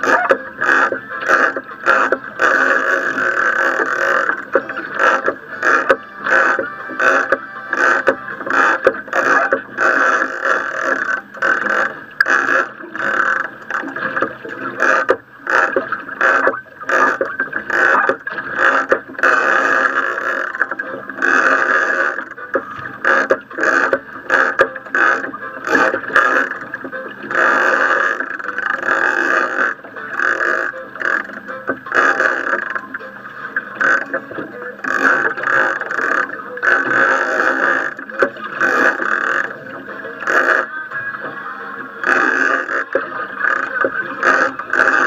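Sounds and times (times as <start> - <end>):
fishing reel cranking: 0.0 - 40.8, 42.0 - 45.0
muffled fishing boat noise: 0.0 - 45.0.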